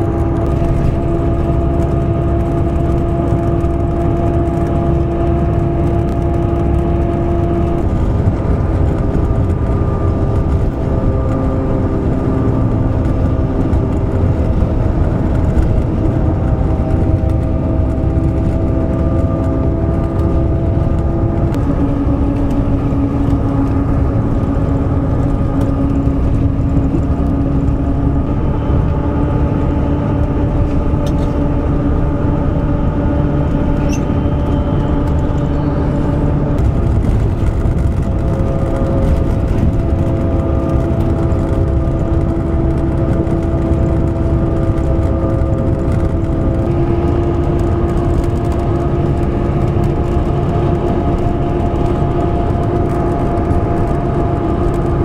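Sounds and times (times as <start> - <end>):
vehicle engine and road rumble: 0.0 - 55.0.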